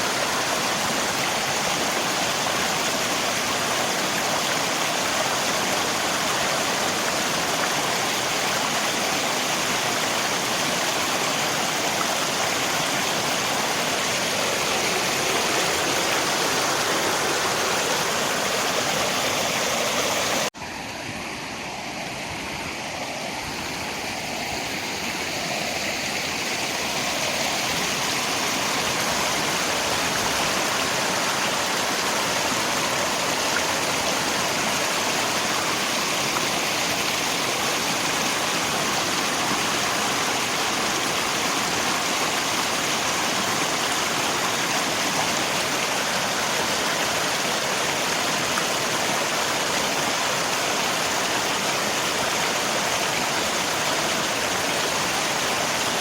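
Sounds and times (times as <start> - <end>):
rain: 0.0 - 20.6, 21.4 - 56.0
river water rushing: 0.0 - 56.0.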